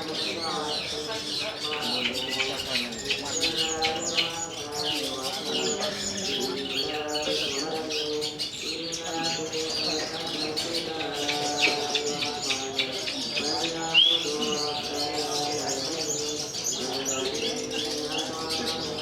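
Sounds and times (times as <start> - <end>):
birds chirping and twittering: 0.0 - 19.0
low held bird tones: 0.0 - 19.0.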